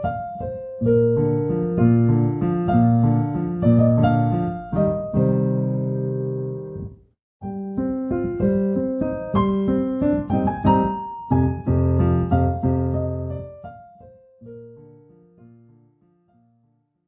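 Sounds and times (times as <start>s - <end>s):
piano music: 0.0s - 16.6s.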